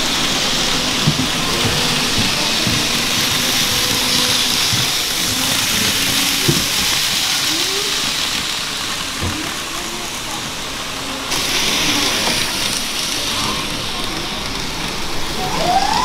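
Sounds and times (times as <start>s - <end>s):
model train wheels and motors hissing: 0.0s - 16.0s.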